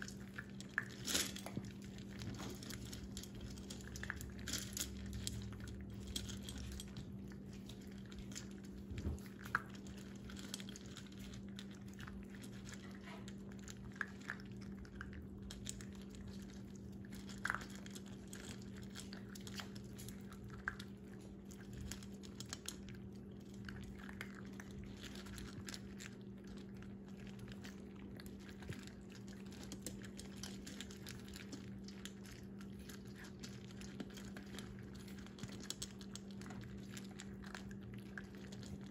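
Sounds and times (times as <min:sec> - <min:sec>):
puppies crunching kibble: 0:00.0 - 0:38.9.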